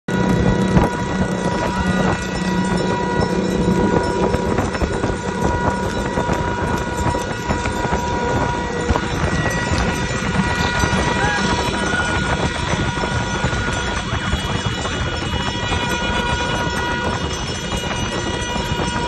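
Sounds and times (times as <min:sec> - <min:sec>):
motorcycle engines: 0:00.1 - 0:19.0
road noise: 0:00.1 - 0:19.0
steady high tone: 0:00.1 - 0:19.0.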